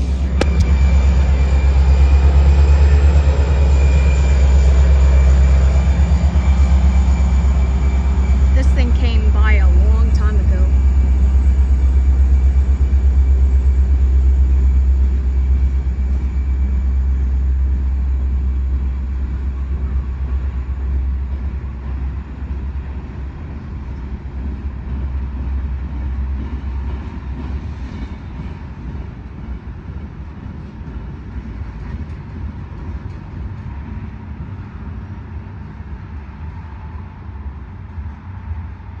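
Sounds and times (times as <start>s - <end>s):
train passing: 0.0s - 39.0s.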